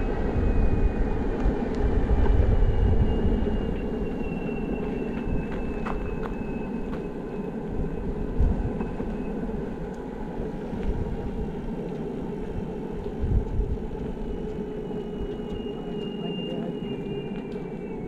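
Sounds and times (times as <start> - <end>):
faint high whine: 0.0 - 18.0
wheels rumbling on asphalt: 0.0 - 18.0
wind buffeting microphone: 0.0 - 18.0.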